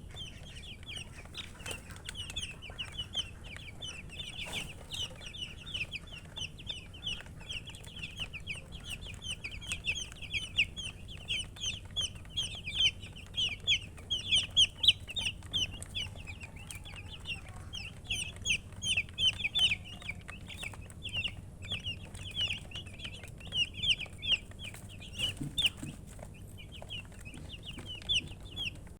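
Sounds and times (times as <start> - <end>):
baby chicks peeping: 0.0 - 28.9.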